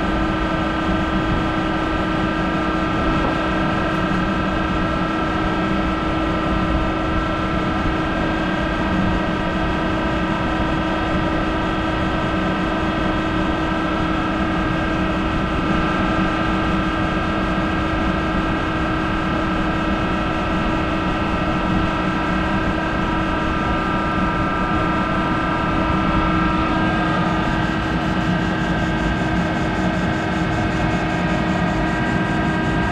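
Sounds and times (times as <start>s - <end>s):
lathe humming with high whine: 0.0s - 32.9s.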